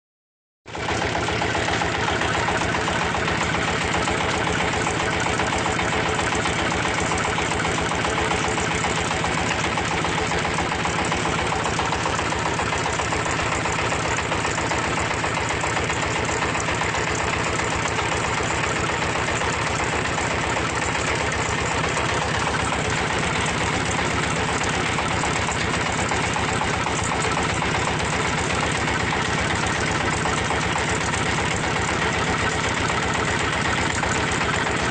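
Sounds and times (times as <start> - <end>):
brick moulding machine pulsing: 0.7 - 34.9.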